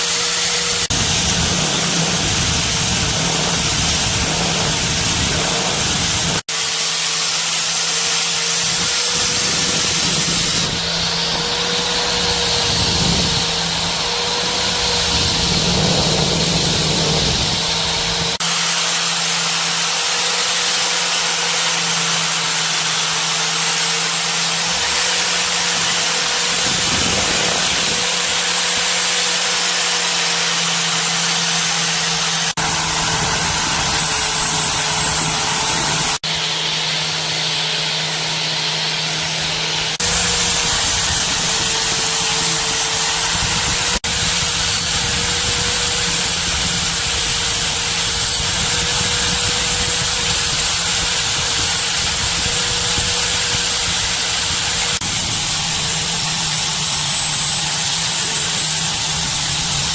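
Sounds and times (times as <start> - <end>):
electric power tool whining: 0.0 - 59.9.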